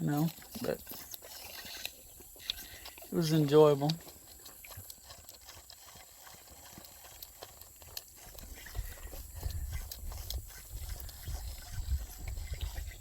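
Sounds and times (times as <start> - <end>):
calf drinking from bottle clicks: 0.0 - 13.0.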